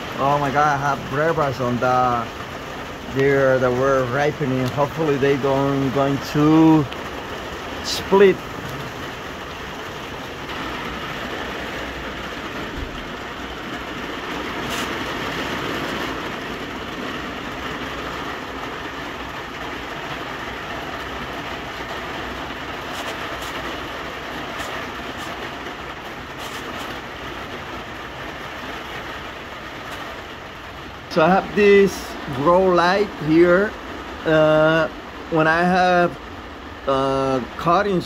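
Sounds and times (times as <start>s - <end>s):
rain on a greenhouse: 0.0s - 38.0s.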